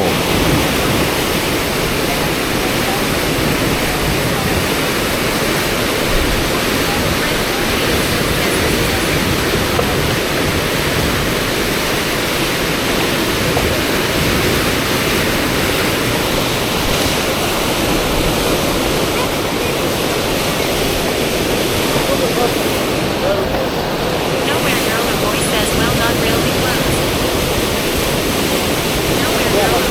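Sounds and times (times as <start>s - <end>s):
rushing white water: 0.0s - 29.9s.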